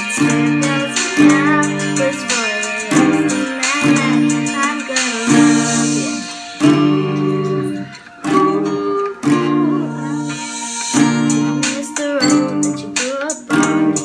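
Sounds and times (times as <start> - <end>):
acoustic guitar strummed chords: 0.0 - 14.0
girl singing: 0.0 - 14.0.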